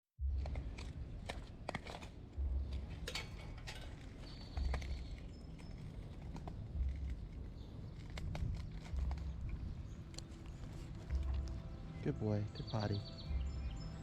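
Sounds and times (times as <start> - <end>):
footsteps outdoors: 0.2 - 14.0.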